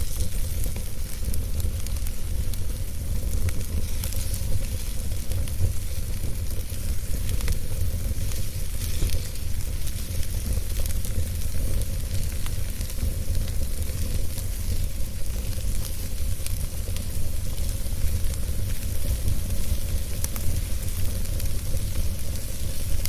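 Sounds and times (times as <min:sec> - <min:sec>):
fire crackles: 0:00.0 - 0:23.0
fire rumble and hiss: 0:00.0 - 0:23.0.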